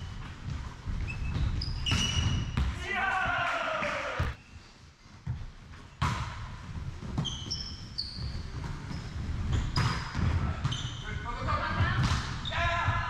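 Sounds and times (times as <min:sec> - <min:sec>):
sports shoes squeaking on floor: 0:00.0 - 0:02.8, 0:04.3 - 0:13.0.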